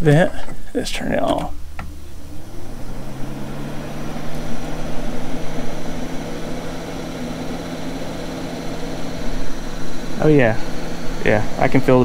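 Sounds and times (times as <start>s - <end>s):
vent fan motor hum: 0.0s - 12.0s.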